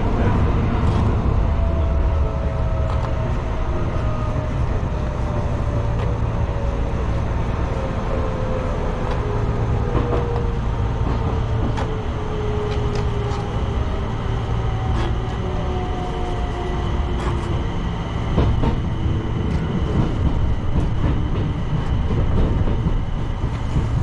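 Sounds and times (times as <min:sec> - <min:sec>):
train rumble: 0:00.0 - 0:24.0.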